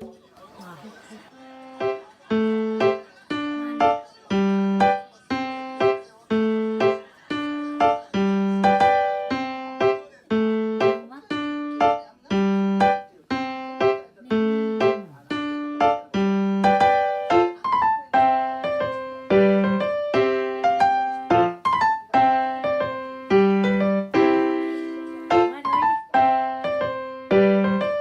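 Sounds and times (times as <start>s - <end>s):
light piano melody: 1.3s - 28.0s.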